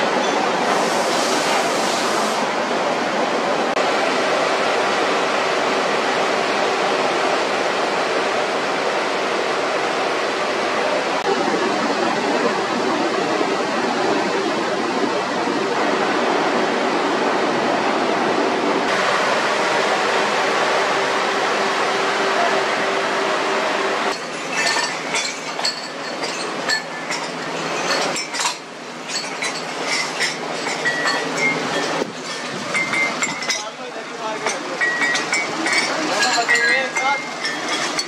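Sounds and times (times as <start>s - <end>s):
machinery rushing noise: 0.0s - 38.0s
constant low hum: 2.8s - 38.0s.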